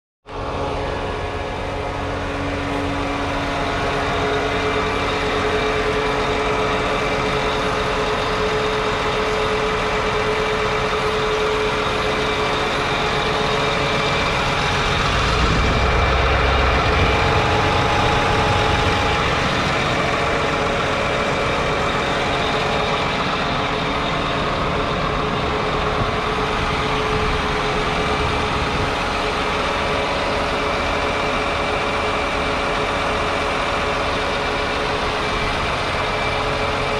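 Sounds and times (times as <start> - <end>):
high whine: 0.3 - 9.4, 11.0 - 32.3
tractor diesel engine running: 0.3 - 36.9.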